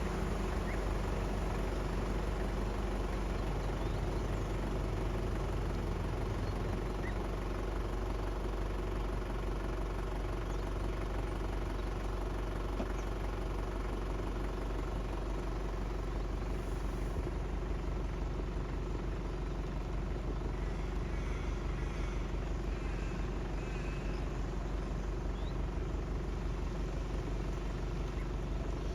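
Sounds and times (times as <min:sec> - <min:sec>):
engine hum: 0:00.0 - 0:28.9.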